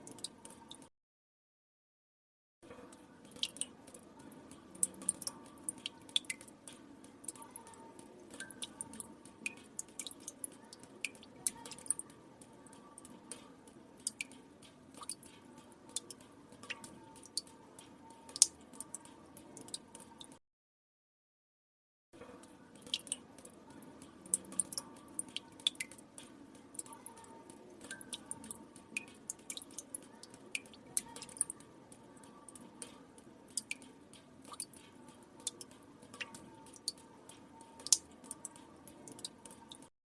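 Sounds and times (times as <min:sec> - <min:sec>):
water drops plinking into water: 0:02.8 - 0:20.4, 0:22.4 - 0:39.9.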